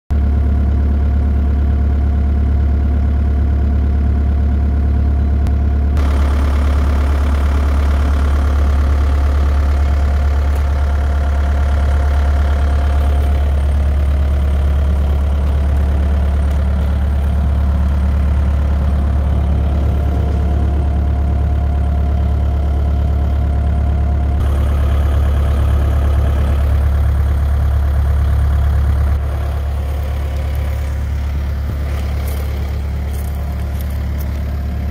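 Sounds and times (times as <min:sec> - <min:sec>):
excavator diesel engine idling: 0:00.1 - 0:34.9.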